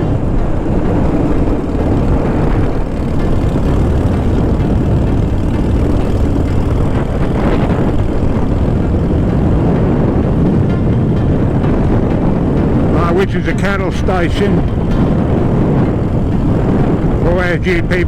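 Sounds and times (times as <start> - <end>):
motorcycle engine rumble: 0.0 - 18.0
wind noise on microphone: 0.0 - 18.0.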